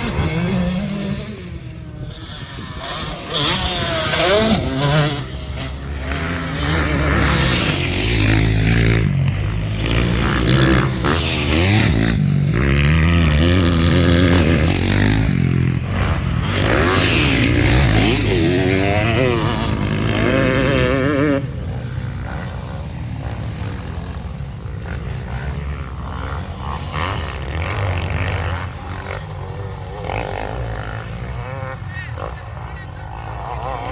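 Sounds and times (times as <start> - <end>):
distant bike engines: 0.0 - 33.9
motocross bikes revving past: 0.0 - 33.9.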